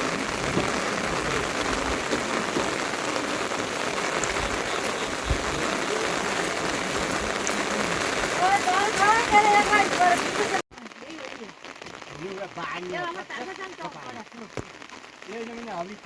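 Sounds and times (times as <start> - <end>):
raindrop ticks: 0.0 - 16.0
steady rain falling: 0.0 - 16.0.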